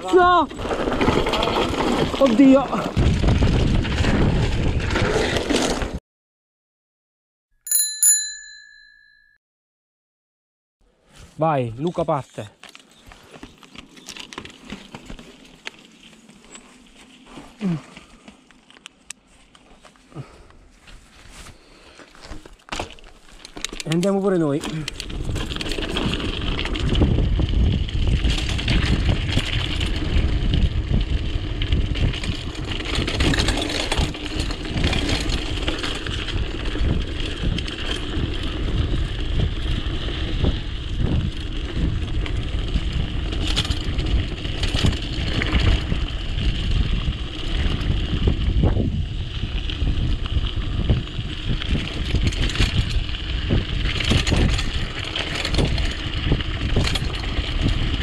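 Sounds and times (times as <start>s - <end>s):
bike rattling and clanking: 0.0s - 6.0s, 13.2s - 18.8s, 22.2s - 58.0s
bike tyres rumbling over dirt: 0.0s - 6.0s, 12.8s - 58.0s.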